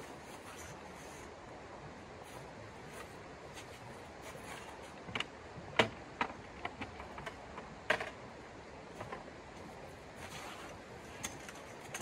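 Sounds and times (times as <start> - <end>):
river hiss: 0.0 - 6.2, 8.2 - 12.0.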